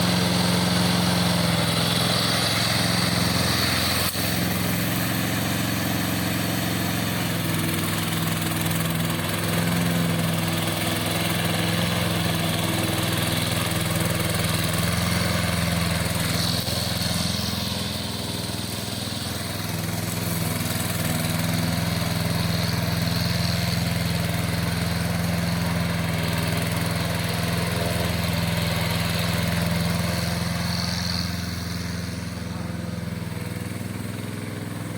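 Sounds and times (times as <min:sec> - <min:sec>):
lawn mower engine humming: 0:00.0 - 0:34.9.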